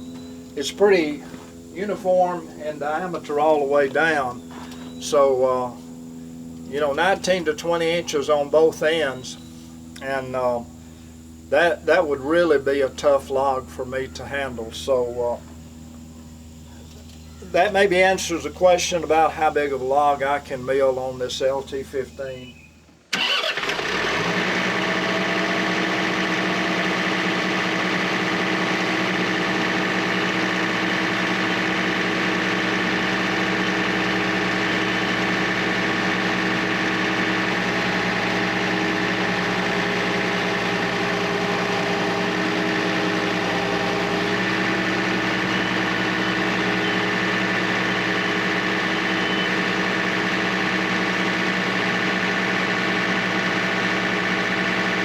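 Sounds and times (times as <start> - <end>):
sawmill engine running: 0.0 - 55.0.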